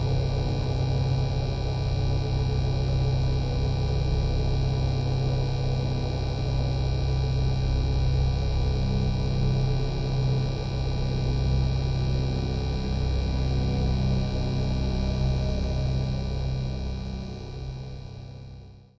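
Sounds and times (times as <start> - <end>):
synthesized hovering drone: 0.0 - 18.6.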